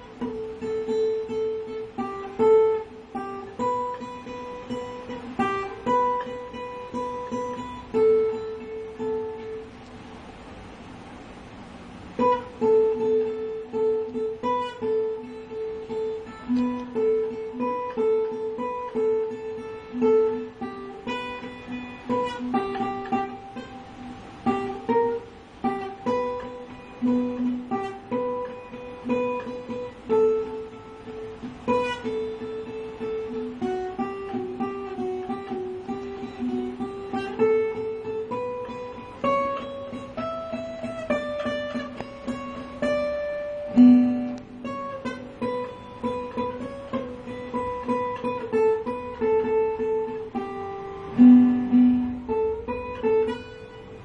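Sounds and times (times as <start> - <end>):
fingerstyle acoustic guitar: 0.0 - 54.0.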